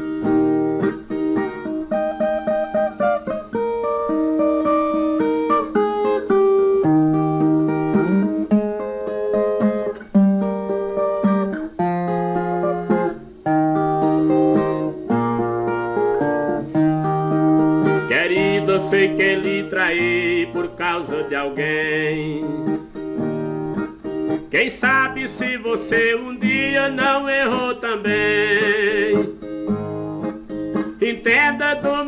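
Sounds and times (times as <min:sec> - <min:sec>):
plucked guitar melody: 0:00.0 - 0:32.0.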